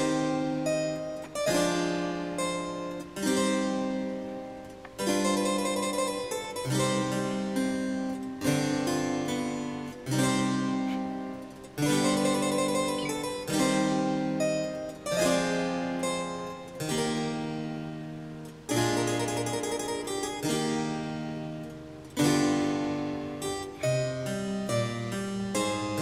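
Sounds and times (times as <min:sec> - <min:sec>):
slow keyboard chords: 0:00.0 - 0:26.0.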